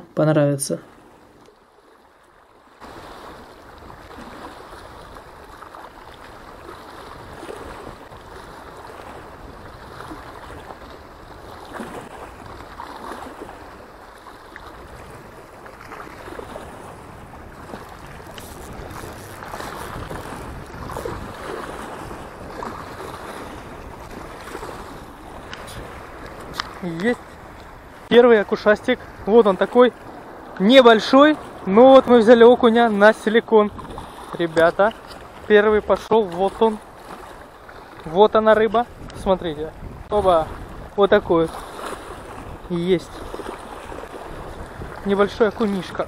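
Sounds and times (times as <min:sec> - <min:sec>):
waves splashing against stone: 0:02.8 - 0:46.0
wind on microphone: 0:02.8 - 0:46.0.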